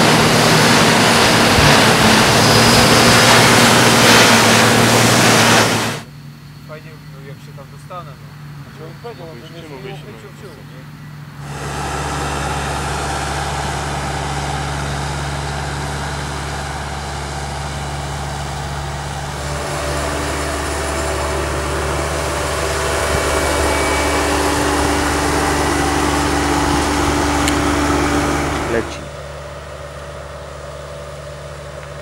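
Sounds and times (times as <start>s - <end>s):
sprayer diesel engine running: 0.0s - 6.1s, 6.7s - 32.0s
combine harvester running: 0.0s - 32.0s.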